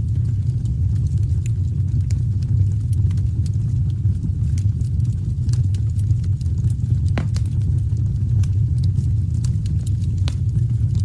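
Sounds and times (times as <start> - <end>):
fire crackling and popping: 0.0 - 11.0
fire rumbling: 0.0 - 11.0.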